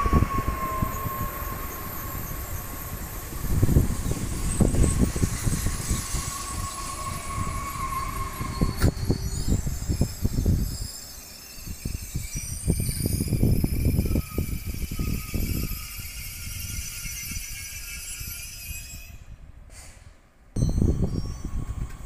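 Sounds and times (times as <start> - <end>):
train running noise: 0.0 - 19.0, 20.6 - 22.0
loud train noise: 0.0 - 22.0.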